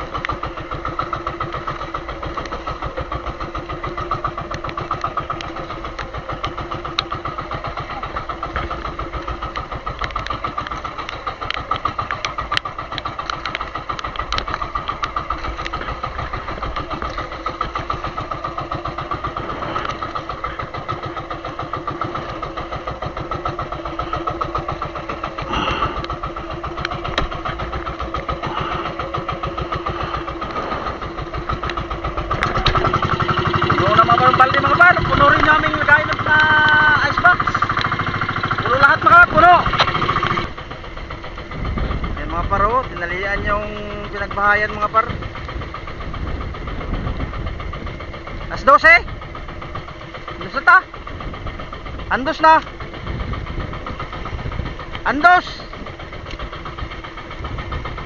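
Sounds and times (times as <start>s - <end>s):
boat engine pulsing: 0.0s - 58.0s.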